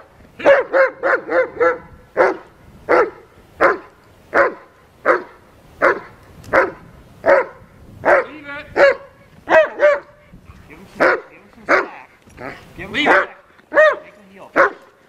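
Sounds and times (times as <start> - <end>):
dog barking loudly: 0.4 - 10.2, 11.0 - 15.0.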